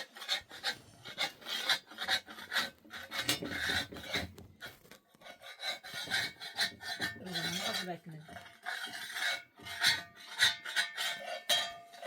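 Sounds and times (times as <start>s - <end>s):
rasping scraping strokes: 0.0s - 12.0s.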